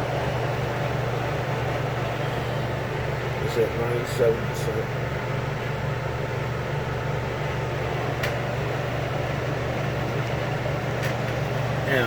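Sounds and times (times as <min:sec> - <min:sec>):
air conditioner fan humming: 0:00.0 - 0:12.0.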